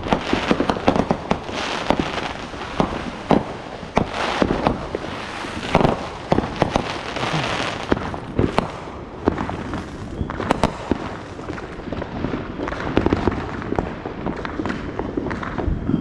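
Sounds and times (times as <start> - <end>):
fireworks bangs and pops: 0.0 - 16.0
fireworks crackling: 0.0 - 16.0.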